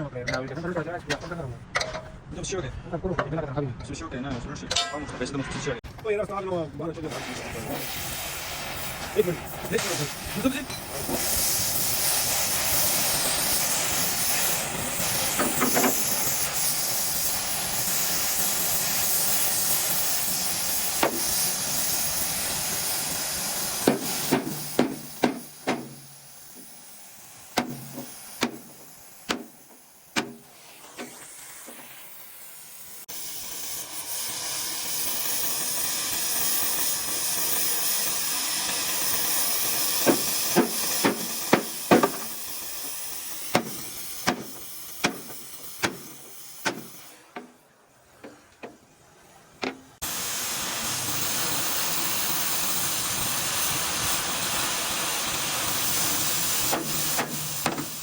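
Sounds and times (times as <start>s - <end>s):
air escaping hiss: 7.0s - 47.6s, 50.0s - 58.0s.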